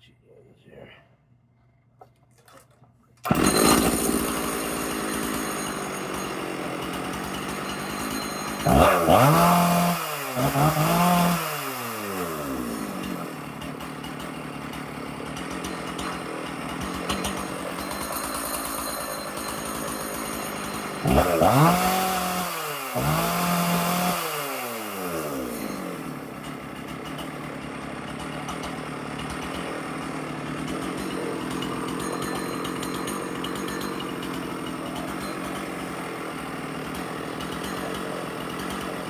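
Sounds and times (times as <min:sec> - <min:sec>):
chainsaw idling and revving: 0:03.2 - 0:39.0.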